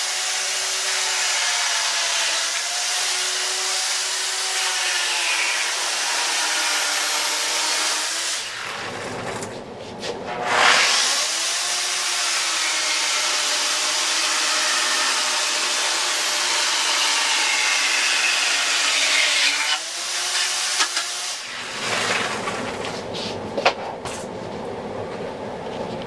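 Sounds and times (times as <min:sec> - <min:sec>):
electric chainsaw cutting log: 0:00.0 - 0:09.5, 0:10.4 - 0:22.9.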